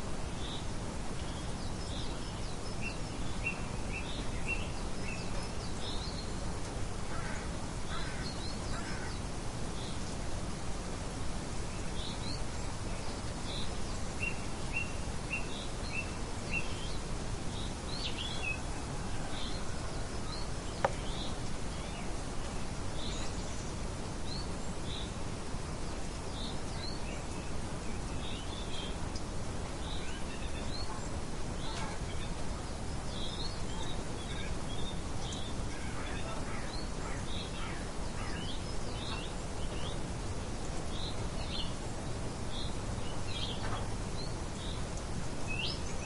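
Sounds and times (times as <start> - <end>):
background hiss: 0.0 - 46.0
birds chirping: 0.0 - 46.0.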